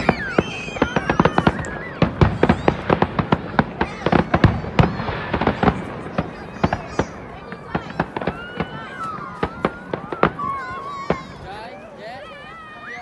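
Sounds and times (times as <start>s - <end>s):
fireworks bangs and cracks: 0.0s - 13.0s
fireworks whistling: 0.0s - 13.0s.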